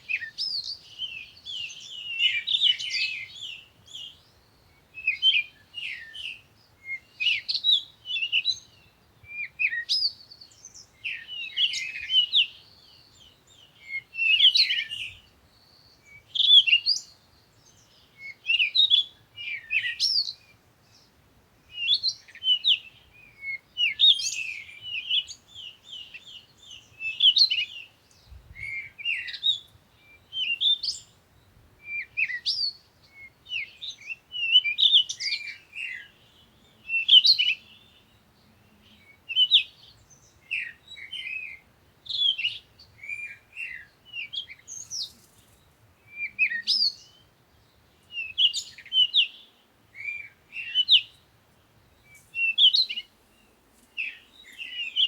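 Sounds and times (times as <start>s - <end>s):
songbirds twittering: 0.0s - 55.0s.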